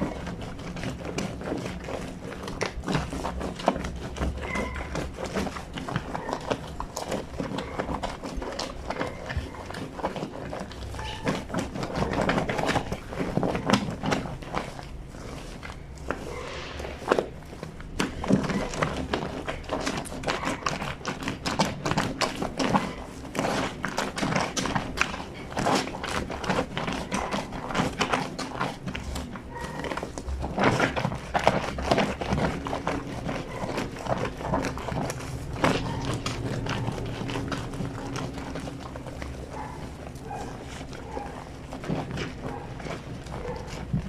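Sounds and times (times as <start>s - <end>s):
wet rubbing of fabric on washboard: 0.0s - 44.0s.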